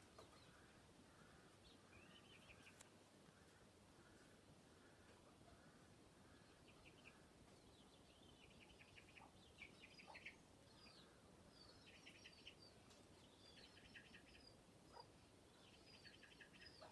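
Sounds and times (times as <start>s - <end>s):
background hiss: 0.0s - 16.9s
faint bird chirps and trills: 0.0s - 16.9s.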